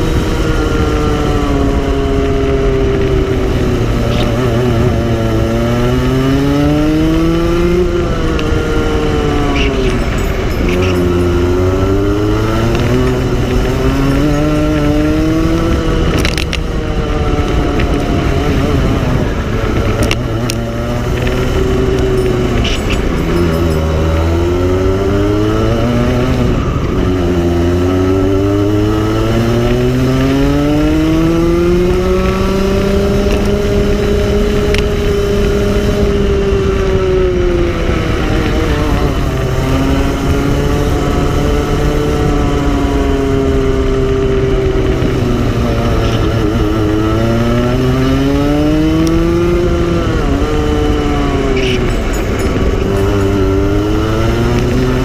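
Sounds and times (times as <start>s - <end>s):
go-kart engine: 0.0s - 55.0s.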